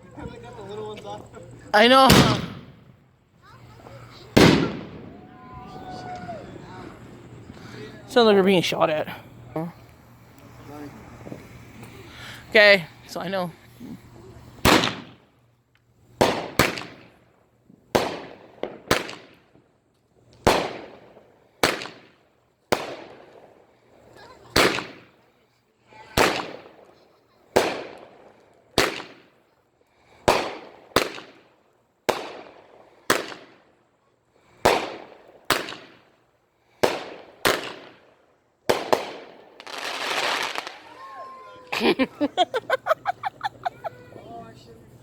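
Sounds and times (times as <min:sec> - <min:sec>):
fireworks bangs: 0:00.2 - 0:15.4, 0:16.1 - 0:19.7, 0:20.4 - 0:25.2, 0:26.0 - 0:29.4, 0:30.2 - 0:33.8, 0:34.5 - 0:36.2, 0:36.8 - 0:44.9.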